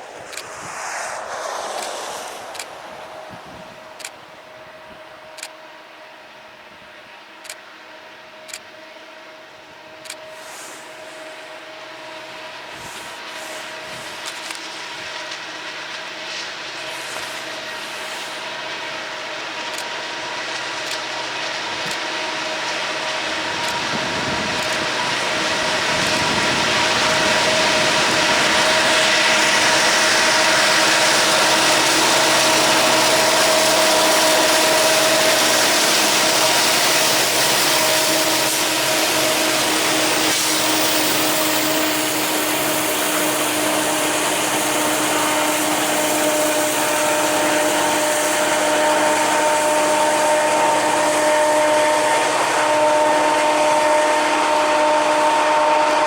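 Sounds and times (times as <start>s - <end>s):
diesel locomotives droning: 0.0s - 56.0s.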